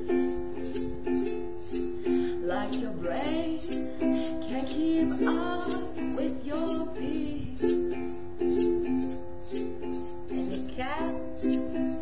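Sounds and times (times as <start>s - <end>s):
person singing: 0.0s - 8.5s, 9.9s - 12.0s
egg shaker: 0.0s - 12.0s
ukuleles strumming: 0.0s - 12.0s.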